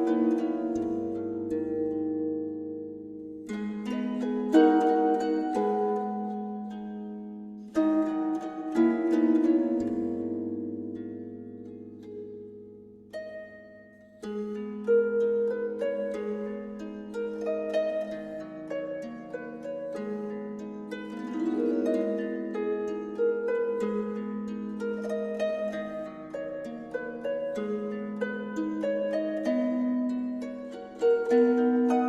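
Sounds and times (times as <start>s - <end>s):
harp music: 0.0s - 32.0s.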